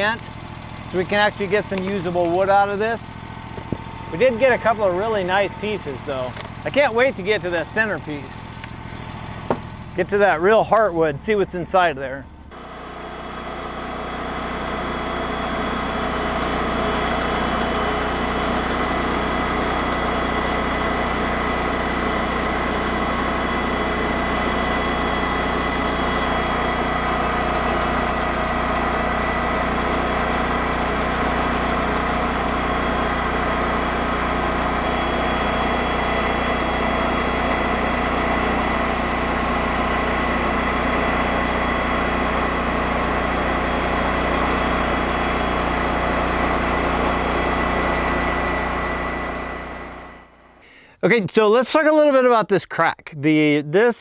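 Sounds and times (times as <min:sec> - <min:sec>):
sawmill engine running: 0:00.0 - 0:50.8.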